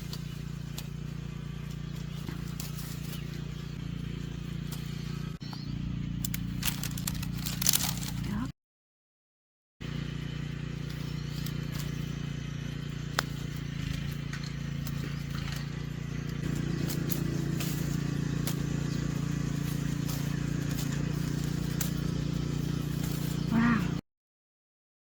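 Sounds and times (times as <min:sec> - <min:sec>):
low mechanical drone: 0:00.0 - 0:08.5, 0:09.8 - 0:24.0.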